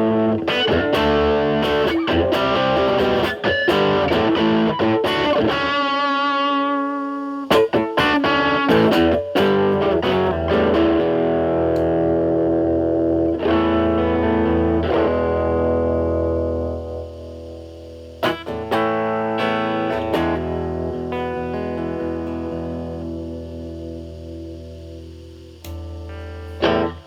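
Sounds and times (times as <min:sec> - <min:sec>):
distorted electric guitar: 0:00.0 - 0:27.0.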